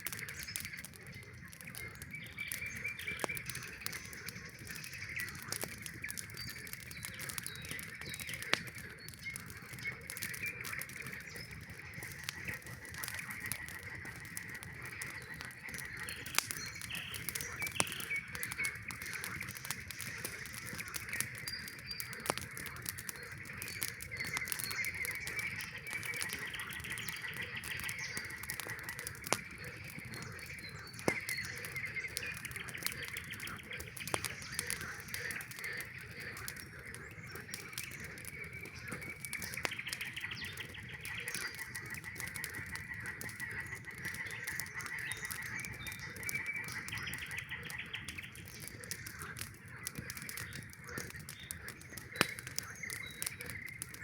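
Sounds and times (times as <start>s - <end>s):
campfire popping: 0.0s - 54.0s
frogs calling: 0.1s - 54.0s.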